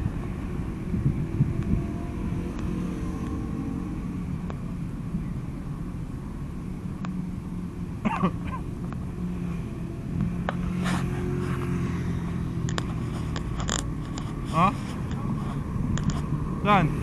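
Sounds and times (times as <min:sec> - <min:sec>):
low rumble of vehicle engines: 0:00.0 - 0:17.0.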